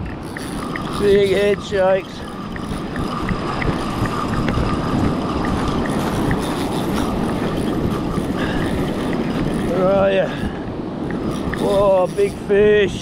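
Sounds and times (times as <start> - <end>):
fishing reel whirring: 0.0 - 13.0
wind: 0.0 - 13.0.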